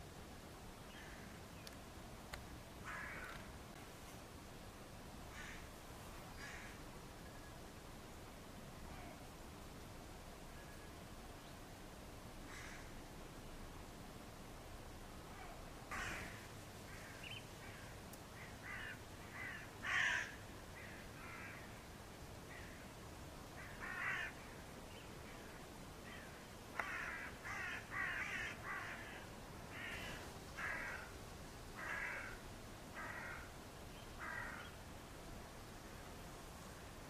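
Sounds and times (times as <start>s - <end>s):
faint background noise: 0.0s - 37.0s.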